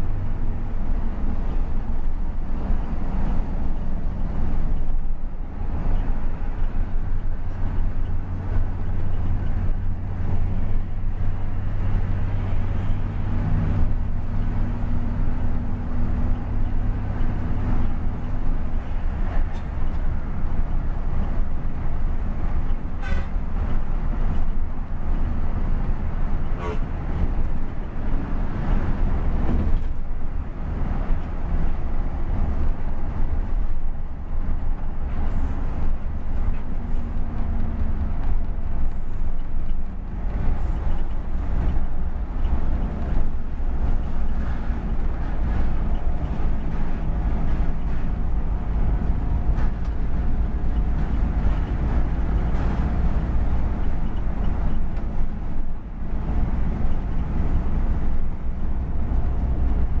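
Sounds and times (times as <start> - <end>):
bus engine and road noise: 0.0 - 60.0.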